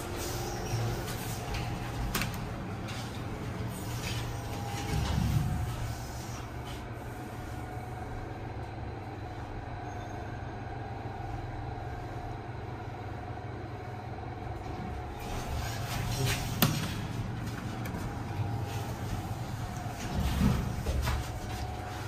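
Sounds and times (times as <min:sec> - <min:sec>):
lift car hum and rumble: 0:00.0 - 0:22.0.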